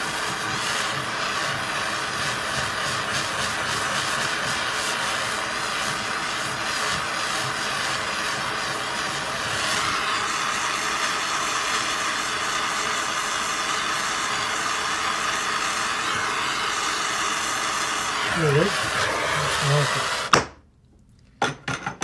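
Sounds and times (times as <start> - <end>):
soldering torch flame hissing: 0.0 - 20.4.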